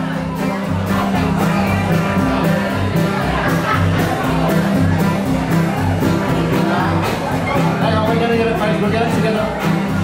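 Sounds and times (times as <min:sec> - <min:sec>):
guitars: 0:00.0 - 0:10.0
live band playing: 0:00.0 - 0:10.0
steady drum beat: 0:00.0 - 0:10.0.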